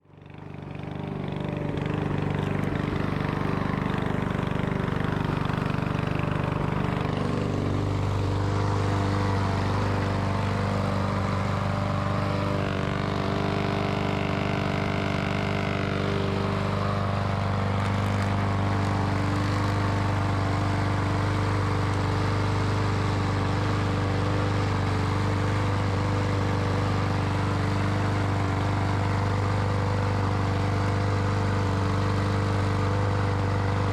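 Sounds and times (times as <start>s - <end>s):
lawnmower engine running: 0.0s - 33.9s.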